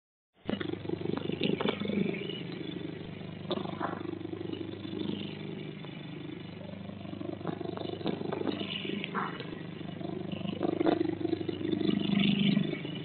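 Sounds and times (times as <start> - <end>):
low engine-like hum: 0.6 - 13.0.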